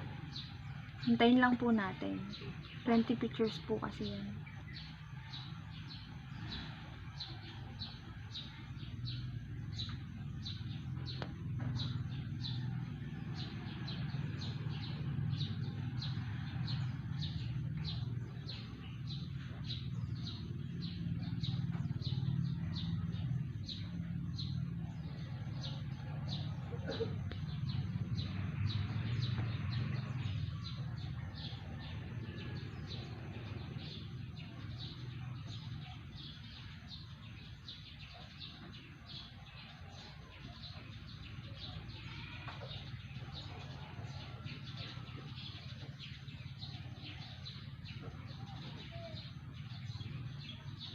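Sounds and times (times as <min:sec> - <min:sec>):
bird chirping: 0:00.0 - 0:50.9.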